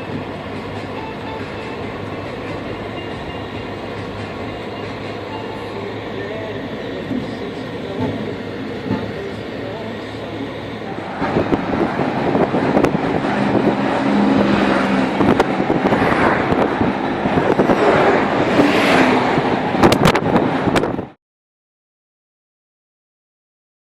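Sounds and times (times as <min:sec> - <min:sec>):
car driving on highway: 0:00.0 - 0:21.2.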